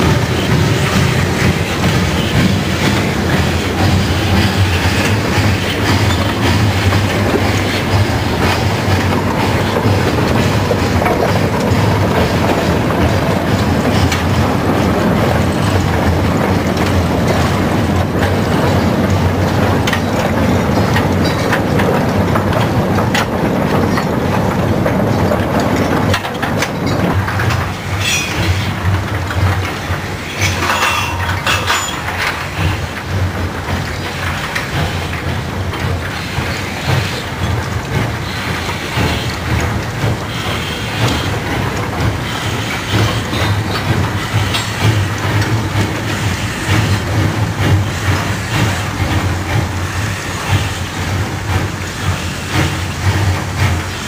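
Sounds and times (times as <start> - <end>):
wagon wheels rumbling on rails: 0.0 - 54.0.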